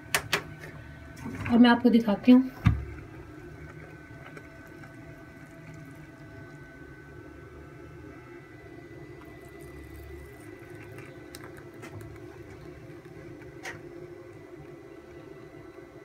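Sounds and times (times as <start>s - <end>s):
low kitchen hum: 0.0s - 16.0s.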